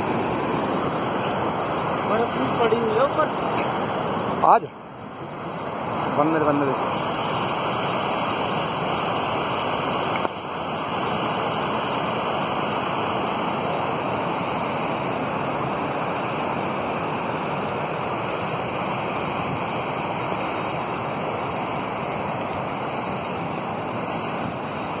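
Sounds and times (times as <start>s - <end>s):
mountain stream rushing over stones: 0.0s - 25.0s.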